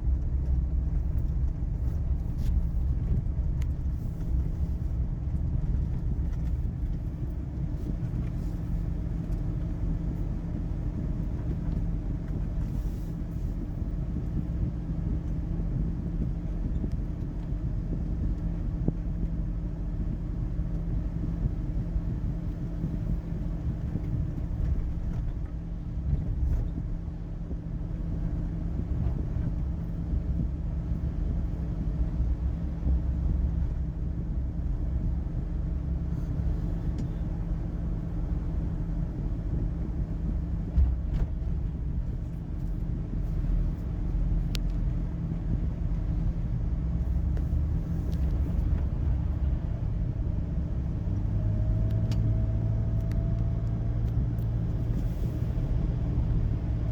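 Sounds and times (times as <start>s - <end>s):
car engine from inside cabin: 0.0s - 56.9s.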